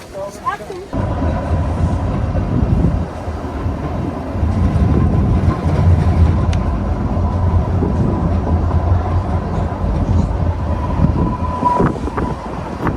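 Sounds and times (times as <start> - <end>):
train rumbling: 0.8 - 12.9.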